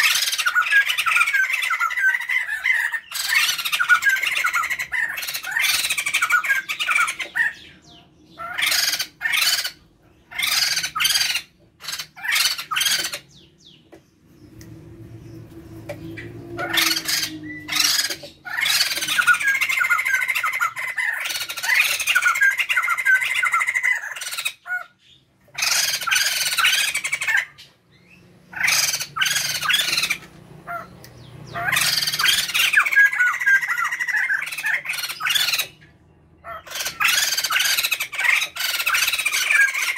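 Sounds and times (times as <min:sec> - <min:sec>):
birds squawking chatter: 0:00.0 - 0:39.9.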